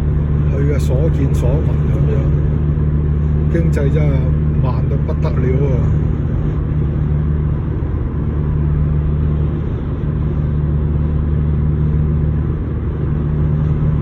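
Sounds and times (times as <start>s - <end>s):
car cabin drone at highway speed: 0.0s - 14.0s.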